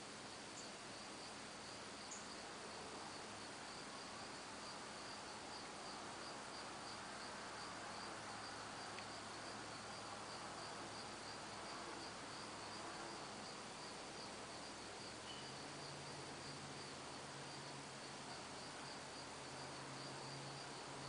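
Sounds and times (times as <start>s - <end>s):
crickets chirping: 0.0s - 21.0s
faint hiss: 0.0s - 21.0s.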